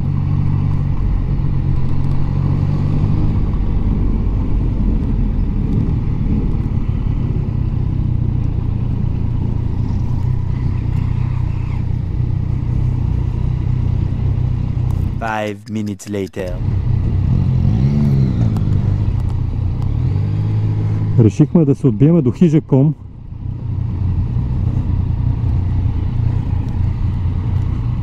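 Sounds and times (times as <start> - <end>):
motorcycle engine running: 0.0 - 15.5, 16.4 - 28.0
light wind: 0.0 - 28.0
road noise: 0.0 - 28.0.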